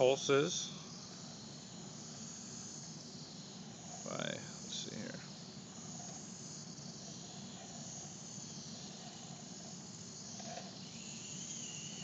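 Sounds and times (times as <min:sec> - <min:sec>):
background hiss: 0:00.0 - 0:12.0
servo motors whirring: 0:00.9 - 0:12.0.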